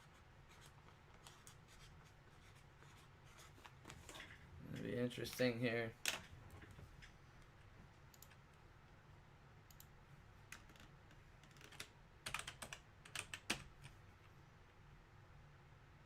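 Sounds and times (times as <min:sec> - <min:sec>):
faint keyboard typing: 0:00.0 - 0:08.7, 0:09.6 - 0:14.8.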